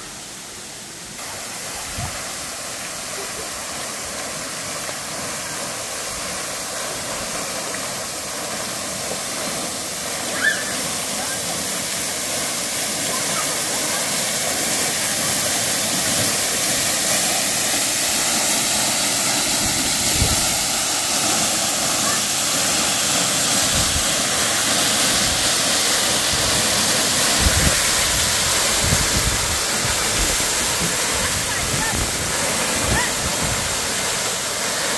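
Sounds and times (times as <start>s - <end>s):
waterfall rushing and splashing: 0.0s - 34.9s.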